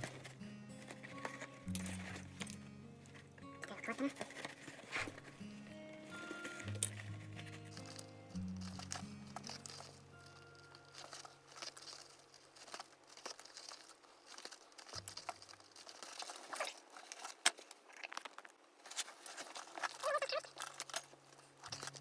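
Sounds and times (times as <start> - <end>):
faint background music: 0.0 - 17.6, 18.8 - 22.0
materials crinkling and rustling: 0.0 - 22.0.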